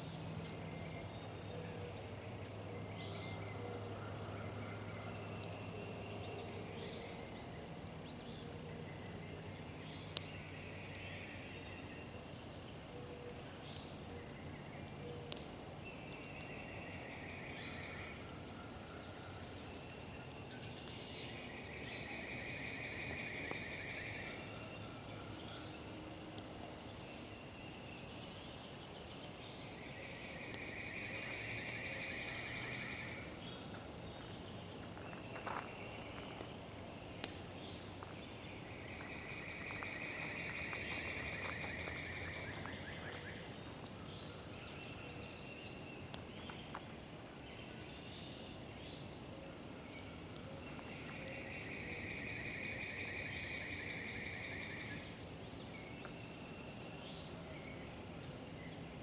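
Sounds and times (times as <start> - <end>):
campfire popping: 0.0 - 59.0
outdoor ambience: 0.0 - 59.0.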